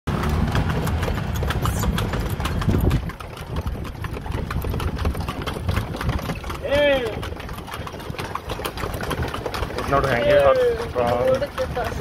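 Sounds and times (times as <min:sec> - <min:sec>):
carriage low rumble: 0:00.1 - 0:12.0
horse hooves clip-clopping on road: 0:00.1 - 0:12.0.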